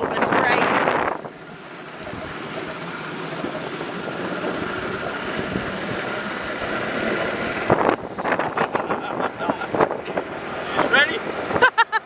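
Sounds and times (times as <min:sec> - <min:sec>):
wind noise: 0:00.0 - 0:02.6, 0:03.4 - 0:12.0
vehicle engine: 0:00.0 - 0:12.0.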